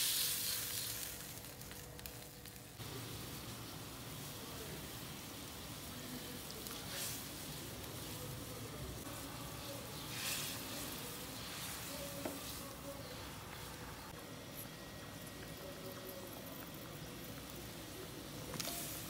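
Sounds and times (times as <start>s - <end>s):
broth bubbling in a wok: 0.0s - 19.0s.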